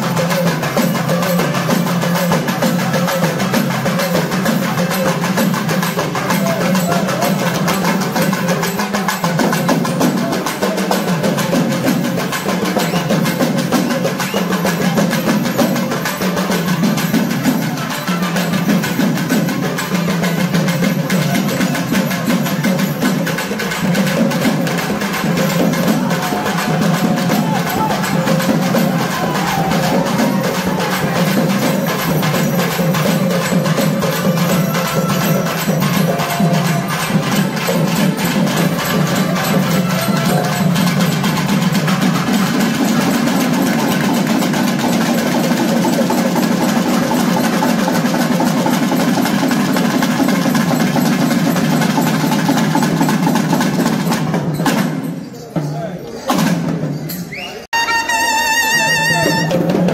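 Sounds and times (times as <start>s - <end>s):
drums beating fast rhythm: 0.0s - 59.9s.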